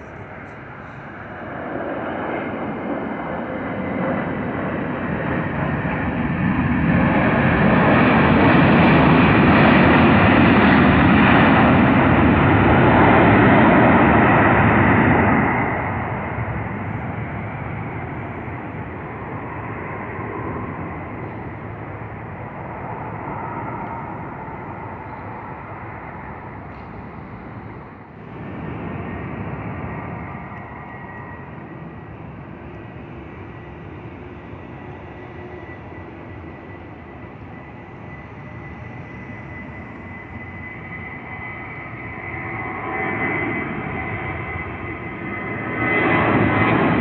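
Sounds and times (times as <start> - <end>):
jet aircraft passing: 0.0 - 47.0.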